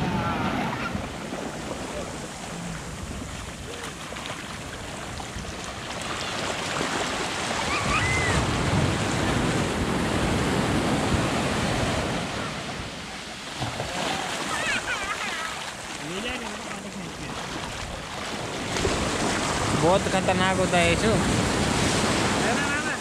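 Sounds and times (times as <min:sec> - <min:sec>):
surf washing up a beach: 0:00.0 - 0:23.0.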